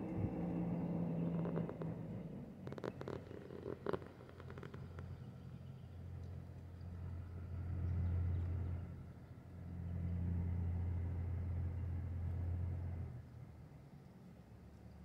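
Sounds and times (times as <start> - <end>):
low motor rumble: 0.0 - 15.0.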